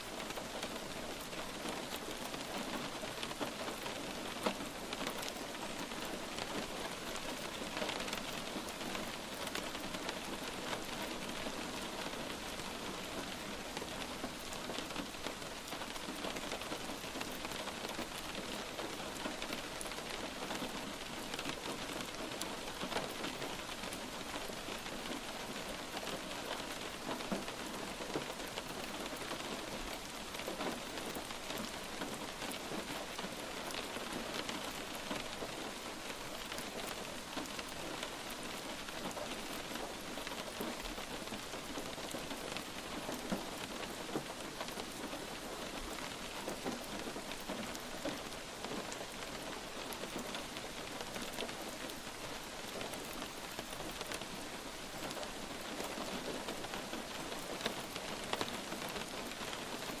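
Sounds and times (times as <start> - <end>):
light rain falling: 0.0 - 60.0.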